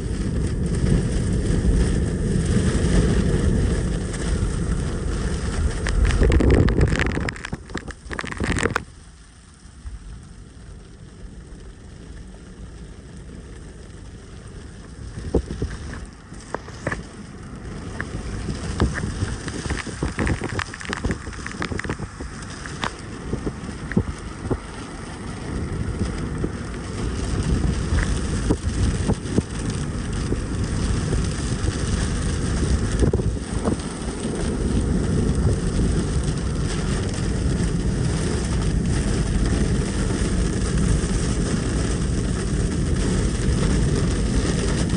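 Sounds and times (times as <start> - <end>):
rain falling: 0.0 - 44.9
wind rumbling on microphone: 0.0 - 44.9.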